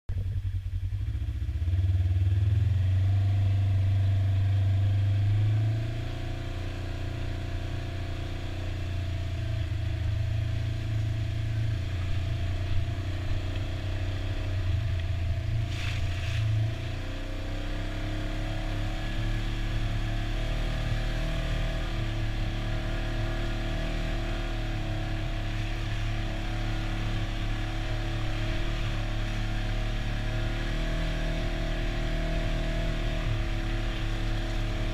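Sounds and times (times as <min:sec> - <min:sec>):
vehicle engine running: 0:00.1 - 0:34.9.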